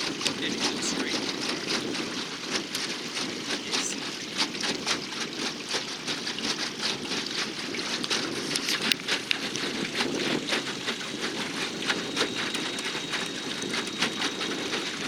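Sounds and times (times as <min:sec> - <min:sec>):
water splashing and trickling: 0:01.5 - 0:15.0.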